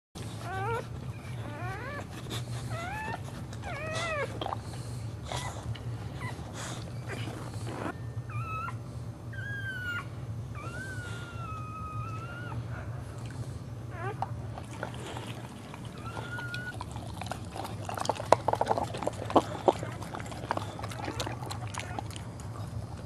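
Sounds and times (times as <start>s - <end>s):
dog whining: 0.2s - 13.1s, 13.9s - 23.0s.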